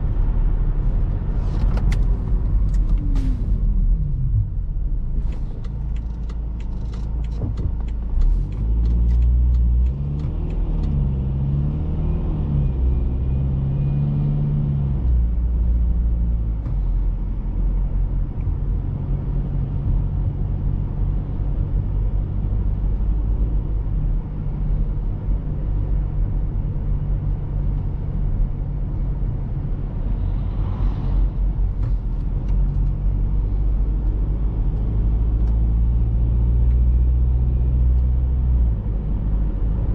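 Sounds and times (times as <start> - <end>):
diesel engine accelerating: 0.0 - 39.9
engine and tyre drone: 0.0 - 39.9.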